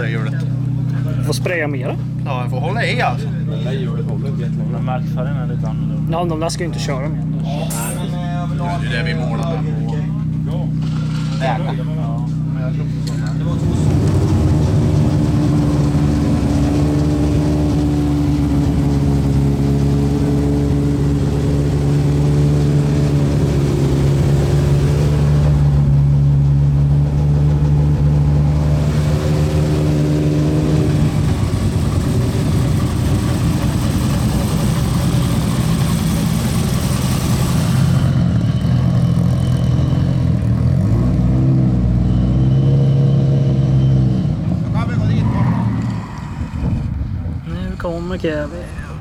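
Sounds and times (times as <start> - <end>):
car engine running: 0.0 - 40.8.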